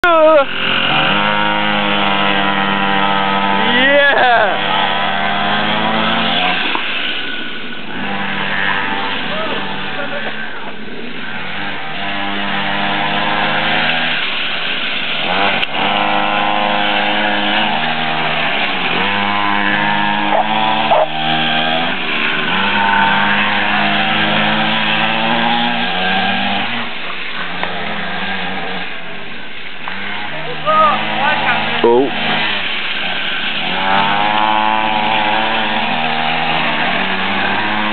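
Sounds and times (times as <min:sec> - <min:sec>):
dirt bike engines buzzing: 0:00.0 - 0:37.9.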